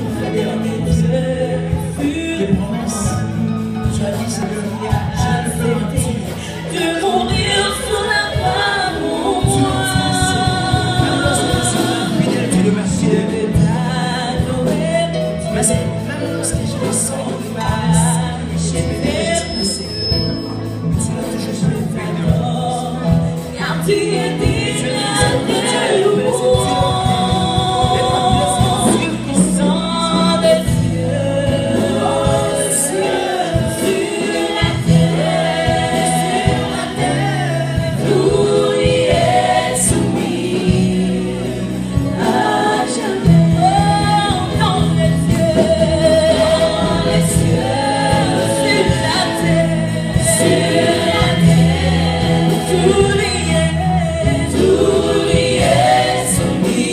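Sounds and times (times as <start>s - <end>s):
band accompaniment with bass: 0.0s - 56.9s
gospel choir singing: 0.0s - 56.9s
man leading the singing: 0.0s - 56.9s.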